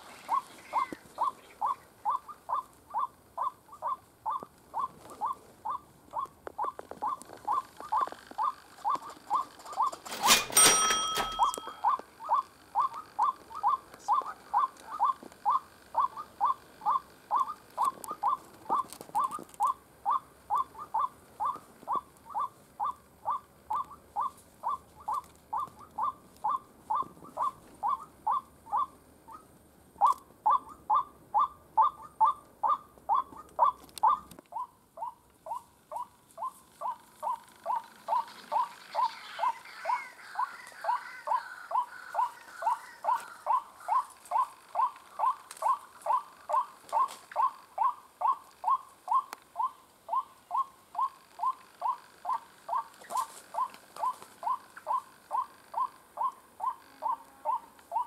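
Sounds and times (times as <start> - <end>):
waterhen call: 0.0 - 29.0, 30.0 - 58.0
higher chattering bird call: 0.0 - 29.4, 30.0 - 58.0.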